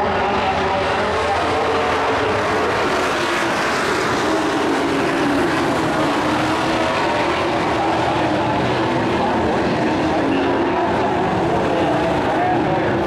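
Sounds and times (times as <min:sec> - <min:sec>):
race truck engines running hard: 0:00.0 - 0:13.0.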